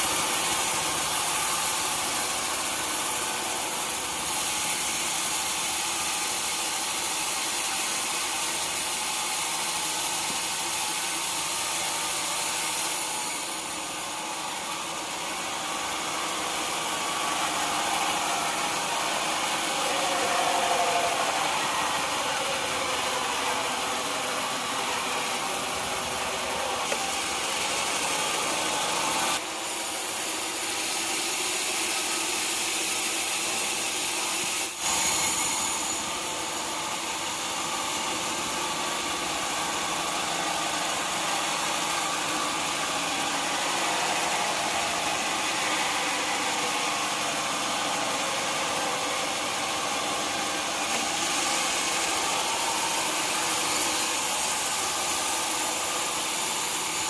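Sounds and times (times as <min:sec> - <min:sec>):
saw noise: 0:00.0 - 0:57.0
sawmill machinery hum: 0:00.0 - 0:57.0.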